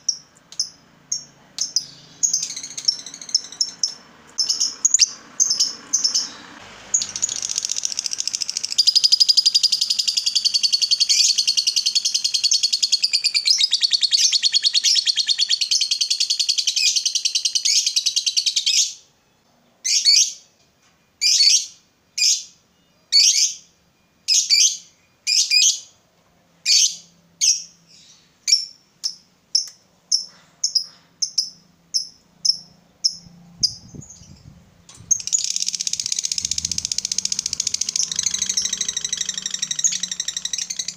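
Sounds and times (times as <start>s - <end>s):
bird high-pitched trill: 0.0s - 19.1s, 21.2s - 26.0s, 26.6s - 40.9s
sharp bird calls: 0.0s - 19.1s, 26.6s - 40.9s.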